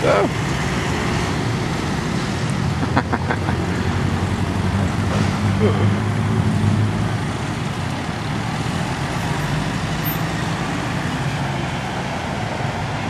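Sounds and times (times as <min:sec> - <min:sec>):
cars and motorbikes passing: 0:00.0 - 0:13.0.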